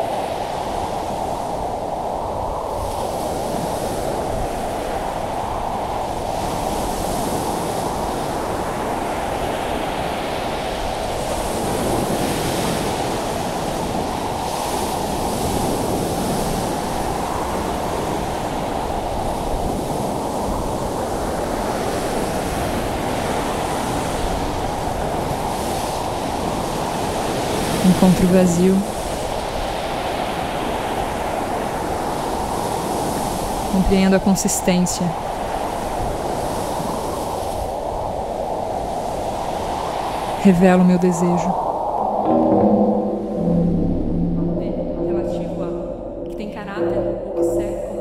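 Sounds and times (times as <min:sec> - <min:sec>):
surf breaking on a beach: 0:00.0 - 0:33.8, 0:35.0 - 0:40.5
wind: 0:00.0 - 0:48.0.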